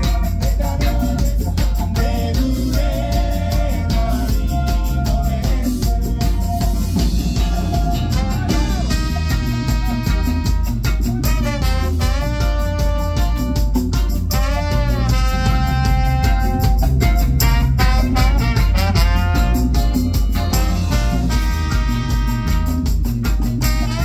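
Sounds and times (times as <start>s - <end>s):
live band playing: 0.0s - 24.0s
trombone and trumpet horn line: 0.0s - 24.0s.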